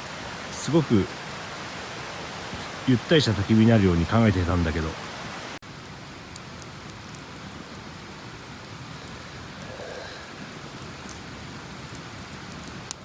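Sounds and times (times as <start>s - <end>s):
campfire crackling and hissing: 0.0s - 13.0s.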